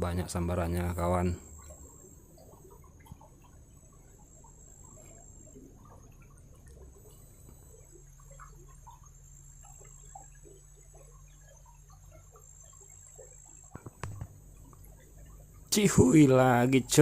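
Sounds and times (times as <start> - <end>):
steady high-pitched whine: 0.0 - 17.0
stream trickling and gurgling: 0.0 - 17.0.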